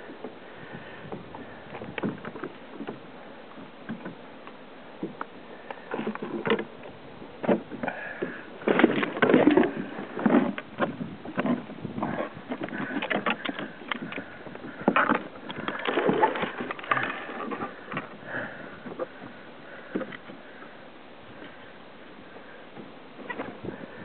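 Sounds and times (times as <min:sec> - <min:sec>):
knocks and thumps on kayak: 0:00.1 - 0:04.2, 0:05.0 - 0:20.5, 0:22.7 - 0:24.0.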